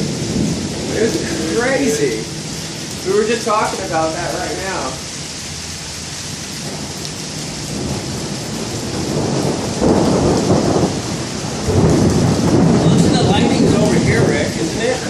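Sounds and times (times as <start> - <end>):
rain hissing: 0.0 - 15.0
thunder rumbling: 0.0 - 15.0.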